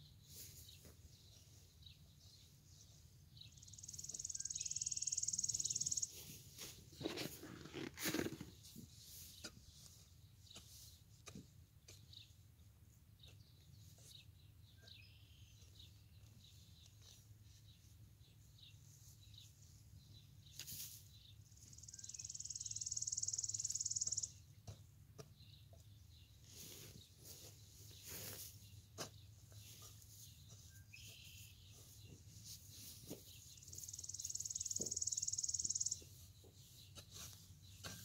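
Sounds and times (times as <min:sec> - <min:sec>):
shovel and hands in soil: 0:00.1 - 0:22.8, 0:23.6 - 0:38.0.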